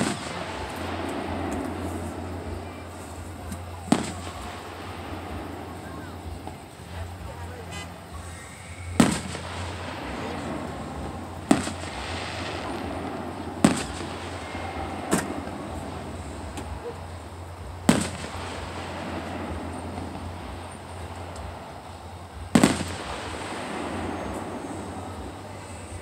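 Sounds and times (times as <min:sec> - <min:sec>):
distant firework bangs: 0:00.0 - 0:26.0
steady background noise: 0:00.0 - 0:26.0.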